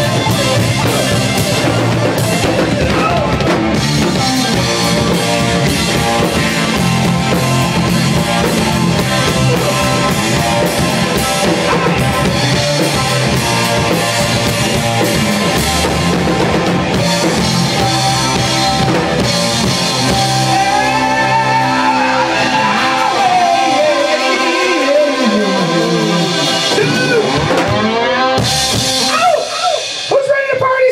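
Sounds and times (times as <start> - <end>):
rock band playing: 0.0 - 30.9.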